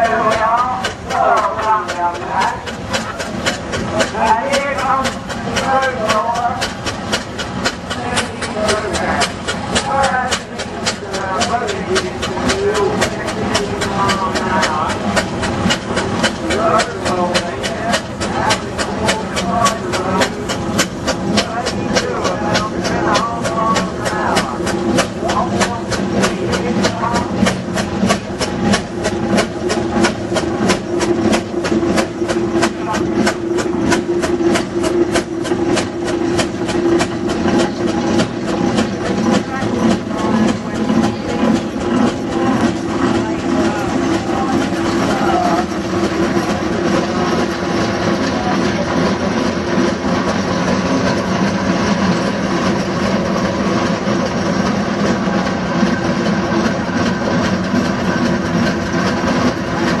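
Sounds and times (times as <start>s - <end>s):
steady engine hum: 0.0s - 60.0s
steam engine exhaust chuffing: 0.0s - 60.0s.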